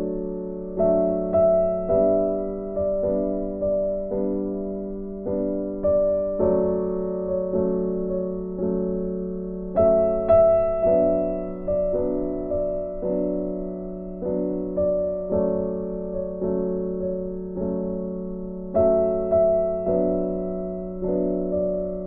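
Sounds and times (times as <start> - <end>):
soft piano chords: 0.0 - 22.0.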